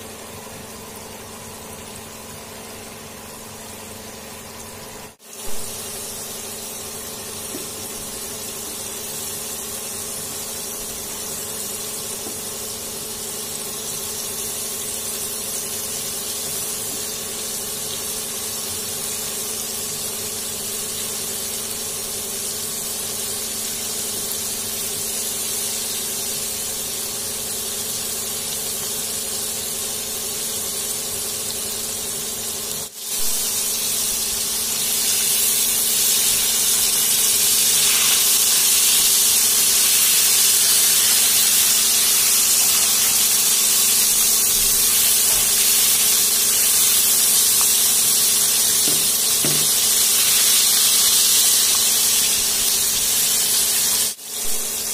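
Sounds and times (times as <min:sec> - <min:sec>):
fish deep-frying in hot oil: 0:00.0 - 0:54.9.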